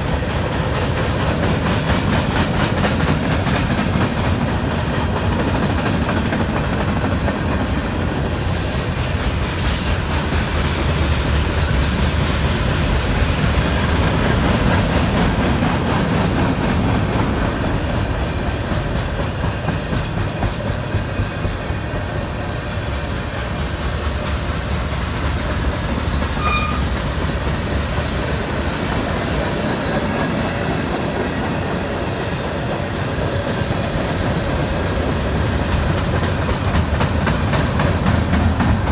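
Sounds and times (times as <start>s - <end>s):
freight wheels clacking over rail joints: 0.0s - 38.9s.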